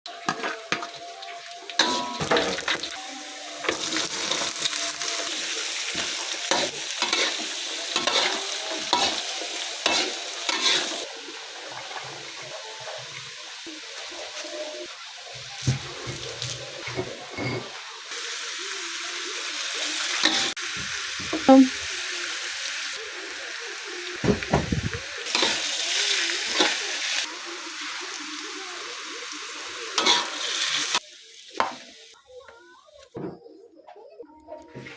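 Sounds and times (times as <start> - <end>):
vegetable sizzling in a pan: 0.1 - 33.1.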